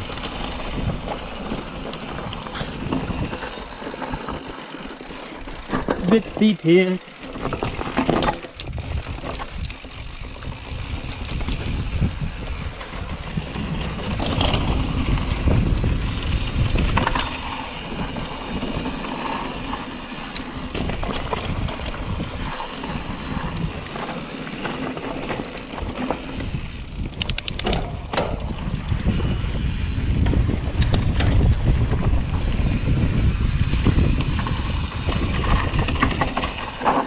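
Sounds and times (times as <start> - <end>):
tyres rolling over dirt and stones: 0.0 - 27.2, 34.0 - 37.0
bike rattling over bumps: 0.0 - 37.0
wind rumbling on microphone: 0.0 - 37.0.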